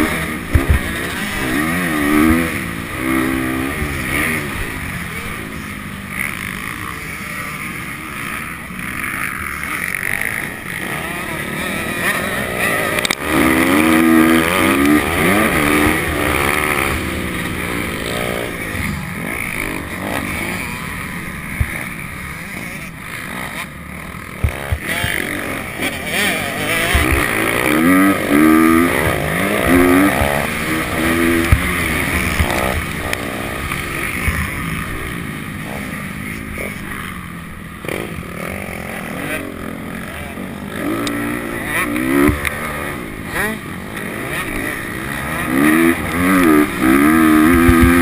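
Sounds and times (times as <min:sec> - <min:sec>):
motocross engine revving: 0:00.0 - 0:48.0.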